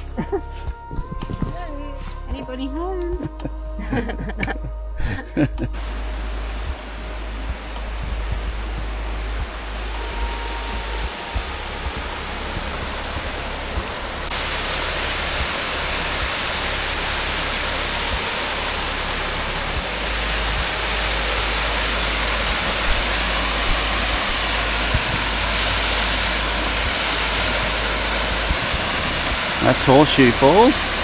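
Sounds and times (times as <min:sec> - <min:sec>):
waterfall rushing: 0:05.8 - 0:31.0.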